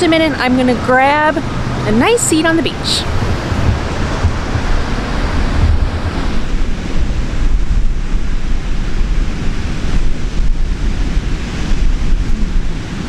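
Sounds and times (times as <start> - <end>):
ocean surf washing on a beach: 0.0 - 13.0
wind buffeting the microphone: 0.0 - 13.0.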